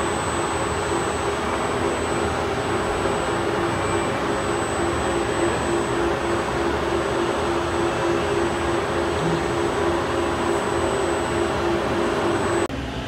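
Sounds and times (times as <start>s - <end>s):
pulsing low hum: 0.0s - 12.7s
faint high whine: 0.0s - 13.0s.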